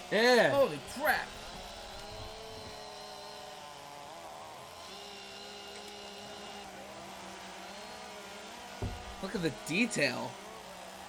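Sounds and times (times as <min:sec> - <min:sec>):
chainsaws carving wood: 0:00.0 - 0:11.0.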